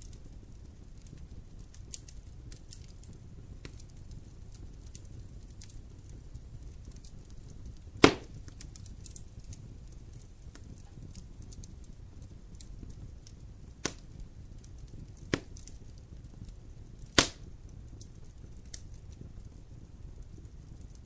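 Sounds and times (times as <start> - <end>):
low steady rumble of fire: 0.0 - 21.0
sharp fire pops: 0.0 - 21.0
wood fire crackling: 0.0 - 21.0.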